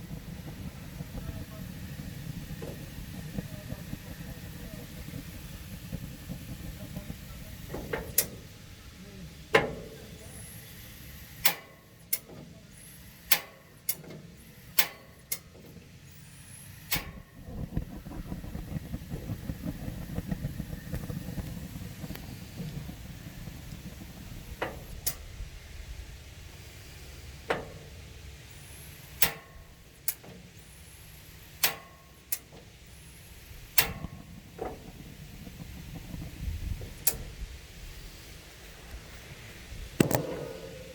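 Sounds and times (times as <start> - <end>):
burner clicks and pops: 0.0 - 8.6, 9.5 - 25.3, 27.4 - 37.4, 39.9 - 40.9
gas grill flame rumble: 0.0 - 40.9.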